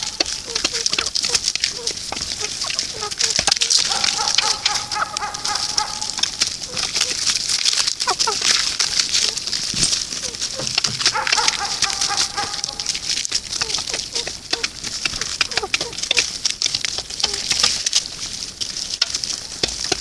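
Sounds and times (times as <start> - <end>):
birds chirping: 0.0 - 17.7
drawn-out bird calls: 0.0 - 20.0.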